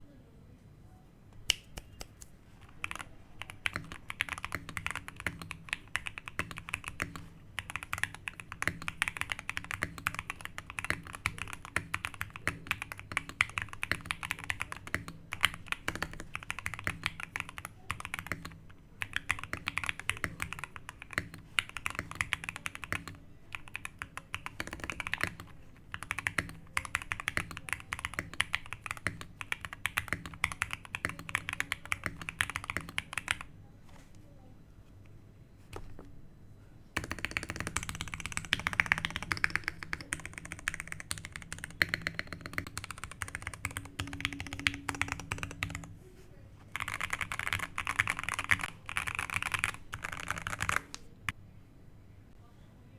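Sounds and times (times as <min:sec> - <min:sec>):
fast typing on mechanical keyboard: 0:02.6 - 0:33.5, 0:37.0 - 0:46.0, 0:46.7 - 0:51.0.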